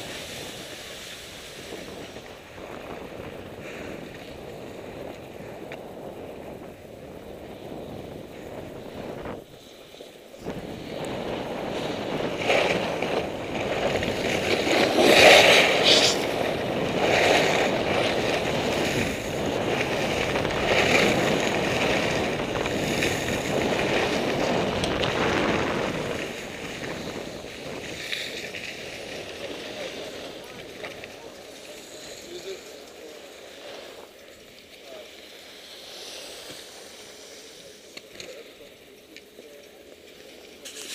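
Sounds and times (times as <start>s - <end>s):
wind rushing over microphone: 0.0s - 9.6s, 10.3s - 34.1s
skis scraping over snow: 0.0s - 40.9s.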